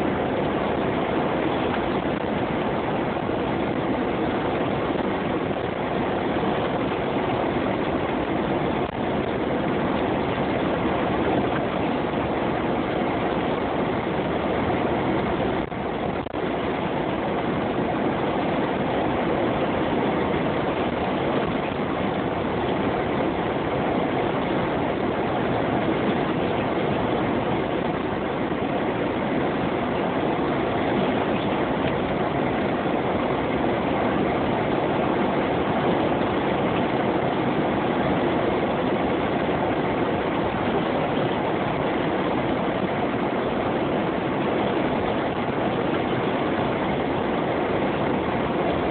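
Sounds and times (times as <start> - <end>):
engine and road noise drone: 0.0 - 48.9.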